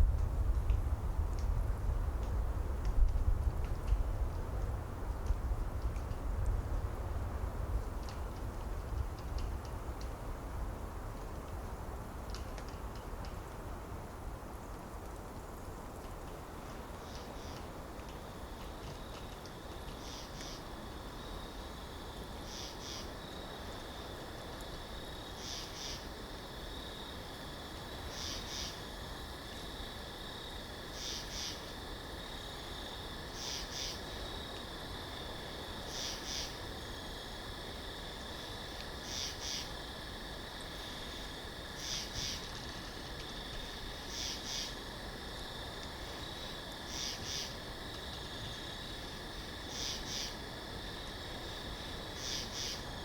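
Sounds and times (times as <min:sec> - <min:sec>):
low rush of wind: 0:00.0 - 0:53.0.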